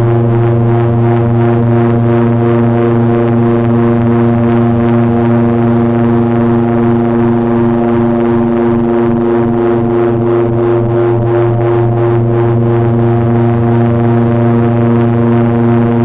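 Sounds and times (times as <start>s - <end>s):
electronic drone: 0.0s - 16.0s.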